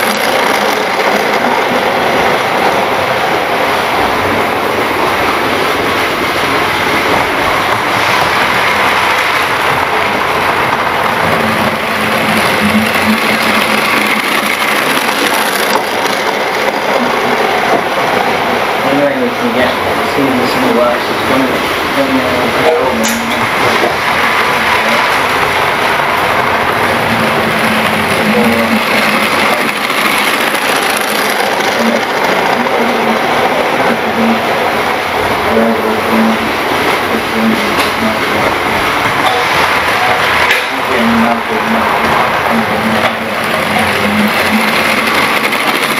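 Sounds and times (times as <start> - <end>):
model train running on track: 0.0 - 45.9.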